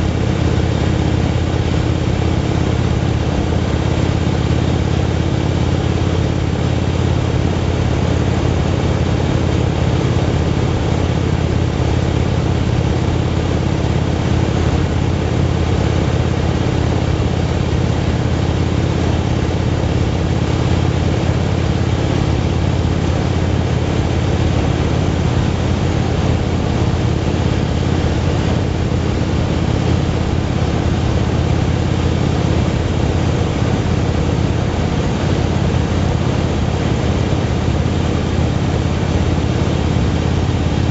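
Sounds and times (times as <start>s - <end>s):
rush of noise: 0.0s - 40.9s.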